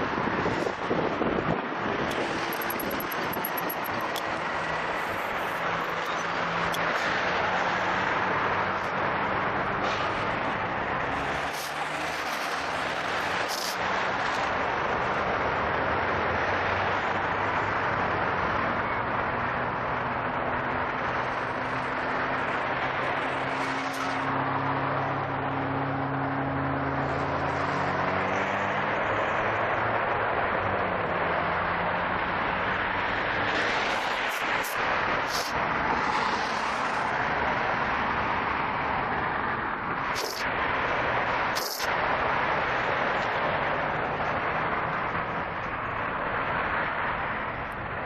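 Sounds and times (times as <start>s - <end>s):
wind and road rush: 0.0s - 48.0s.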